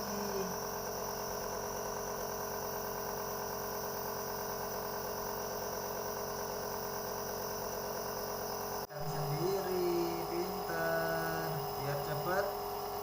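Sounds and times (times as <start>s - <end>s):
nebulizer compressor humming: 0.0s - 13.0s.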